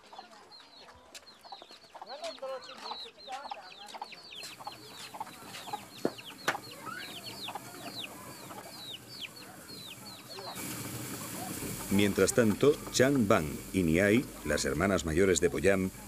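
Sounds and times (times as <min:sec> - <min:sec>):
chickens clucking: 0:00.0 - 0:16.0
chickens peeping: 0:00.0 - 0:16.0.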